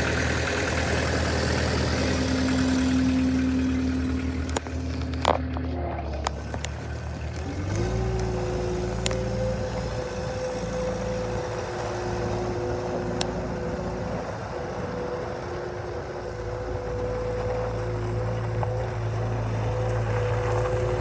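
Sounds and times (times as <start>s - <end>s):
diesel engine running: 0.0s - 21.0s
high whine: 0.0s - 21.0s.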